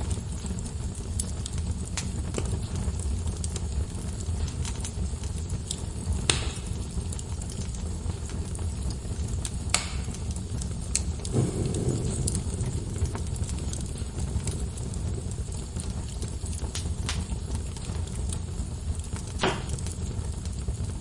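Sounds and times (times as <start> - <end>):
fire crackles and pops: 0.0 - 21.0
wood fire burning: 0.0 - 21.0.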